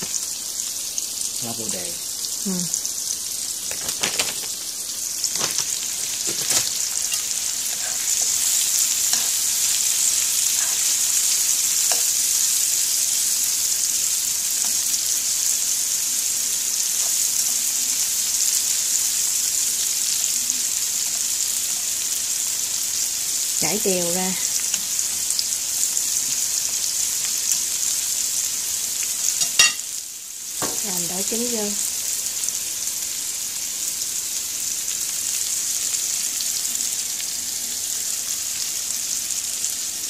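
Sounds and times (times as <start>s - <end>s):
food sizzling in a frying pan: 0.0s - 40.0s.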